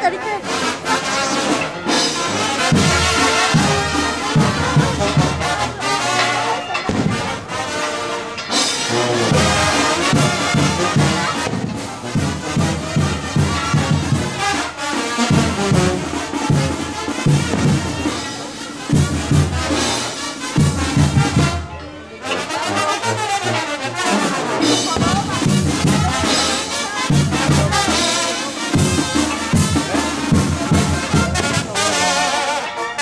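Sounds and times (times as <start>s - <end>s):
brass band playing: 0.0s - 33.0s.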